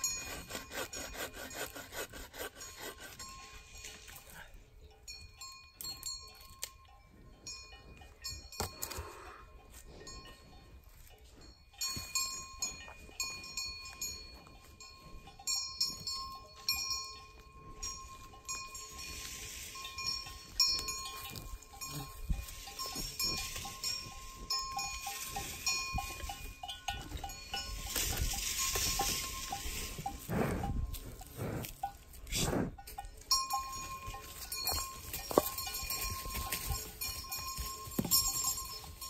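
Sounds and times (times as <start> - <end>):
livestock bells clanking: 0.0 - 1.9, 2.5 - 39.0.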